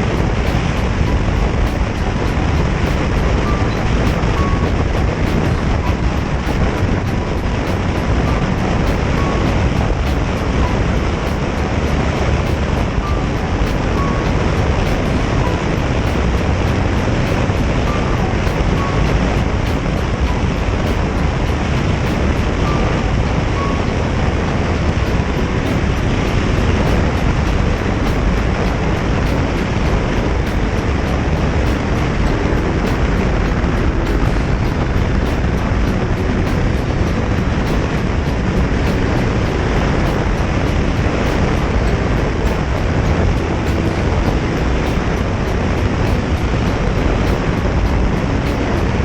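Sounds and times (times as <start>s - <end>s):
motorcycle road noise: 0.0s - 49.0s
wind buffeting microphone: 0.0s - 49.0s.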